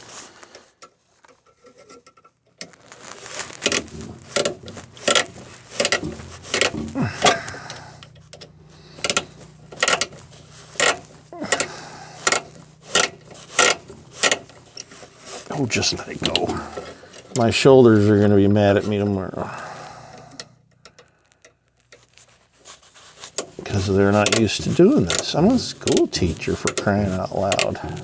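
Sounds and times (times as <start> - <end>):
sharp clicks and knocks: 0.8 - 17.5, 20.1 - 28.0.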